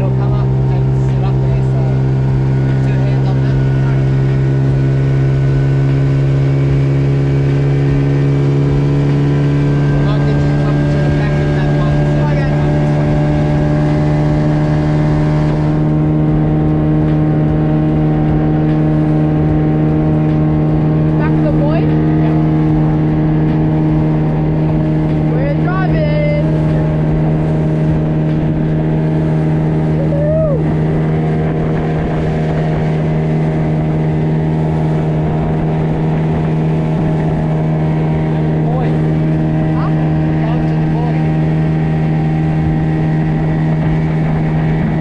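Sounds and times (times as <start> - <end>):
boat motor droning: 0.0 - 45.0
water rushing against hull: 0.0 - 45.0.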